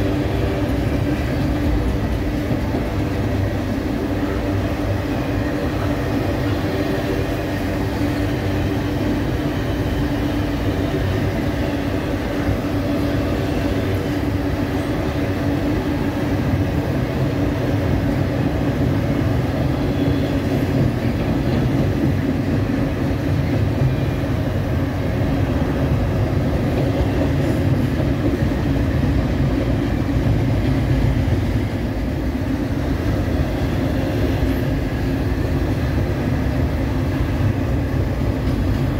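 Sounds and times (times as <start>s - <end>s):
freight train rumbling on rails: 0.0s - 38.9s.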